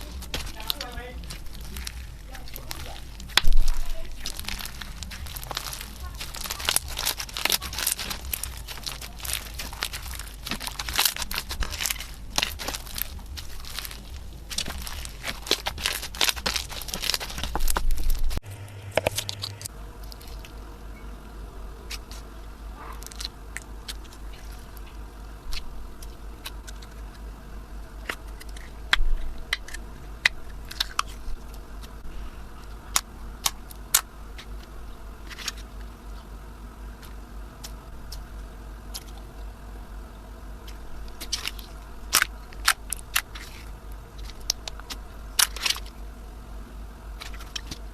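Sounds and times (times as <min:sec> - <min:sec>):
slime clicking and crackling: 0:00.0 - 0:20.6, 0:21.8 - 0:27.2, 0:27.9 - 0:32.0, 0:32.6 - 0:36.2, 0:38.9 - 0:39.4, 0:40.6 - 0:46.0, 0:47.1 - 0:47.9.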